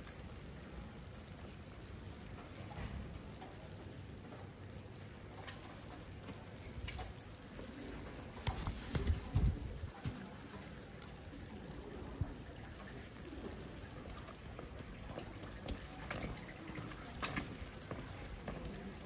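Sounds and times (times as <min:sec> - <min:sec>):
faint drips: 0:00.0 - 0:19.0
rain pattering on hard surfaces: 0:00.0 - 0:19.0.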